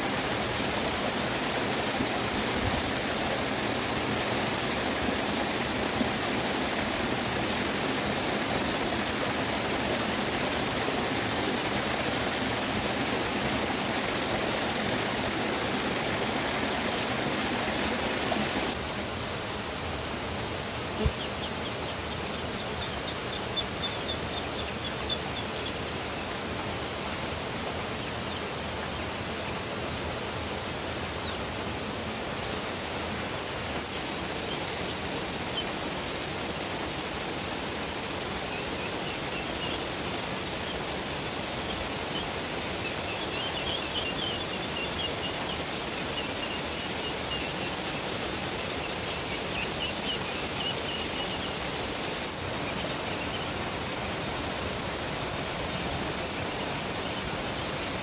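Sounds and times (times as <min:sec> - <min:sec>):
steady rushing outdoor noise: 0:00.0 - 0:58.0.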